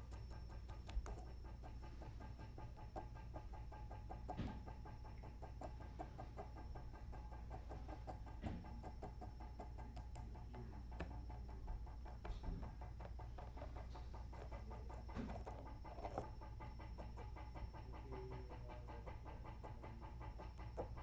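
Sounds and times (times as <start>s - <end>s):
motor fast ticking: 0.0s - 21.0s.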